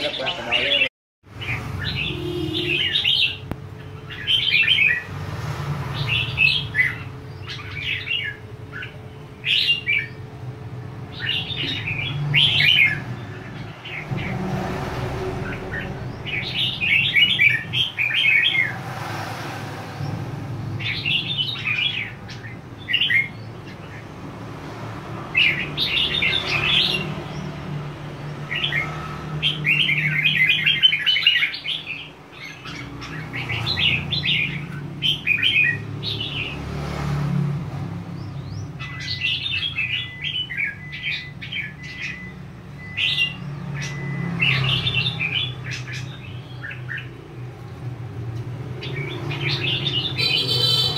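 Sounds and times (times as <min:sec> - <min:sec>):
bird singing warbled phrases: 0:00.0 - 0:19.0, 0:20.0 - 0:37.0, 0:37.8 - 0:50.9.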